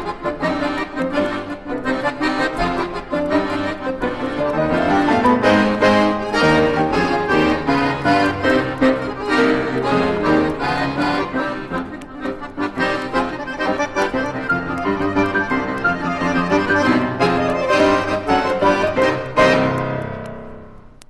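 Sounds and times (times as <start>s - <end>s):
electronic keyboard music: 0.0s - 20.9s.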